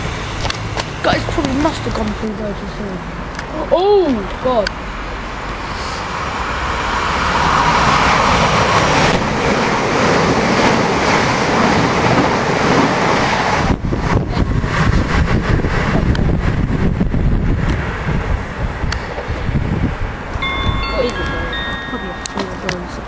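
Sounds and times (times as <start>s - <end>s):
train approaching: 0.0s - 23.0s
train passing at speed: 0.0s - 23.0s
wind buffeting microphone: 0.0s - 23.0s.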